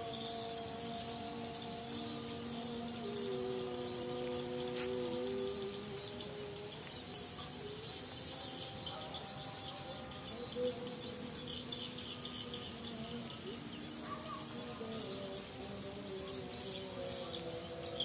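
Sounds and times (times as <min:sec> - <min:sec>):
flock of small birds chirping: 0:00.0 - 0:18.0.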